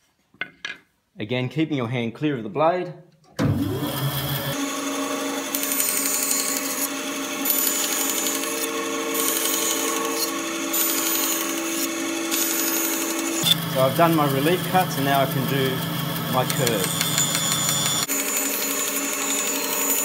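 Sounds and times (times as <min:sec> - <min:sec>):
bandsaw motor hum: 0:03.4 - 0:20.0.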